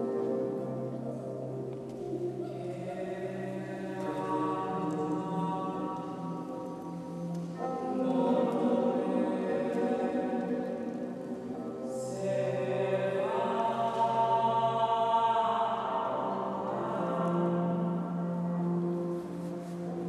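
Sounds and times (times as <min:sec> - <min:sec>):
reverberant chant-like drone tones: 0:00.0 - 0:20.0.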